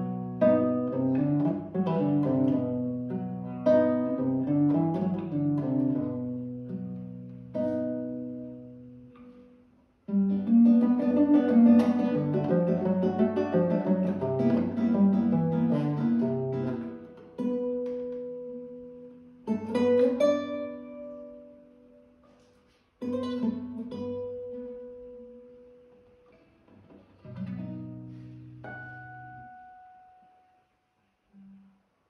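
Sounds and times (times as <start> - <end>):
nylon-string guitar playing: 0.0 - 31.9.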